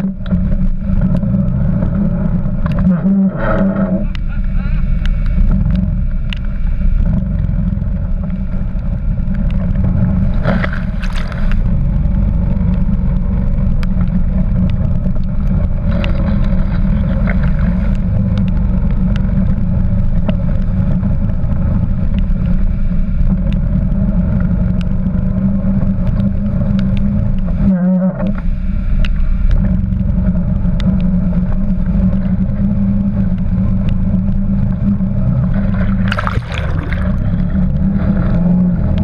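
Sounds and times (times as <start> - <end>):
quad bike engine running: 0.0 - 39.0
rain ticking on camera: 0.0 - 39.0
water splashing around wheels: 0.0 - 39.0.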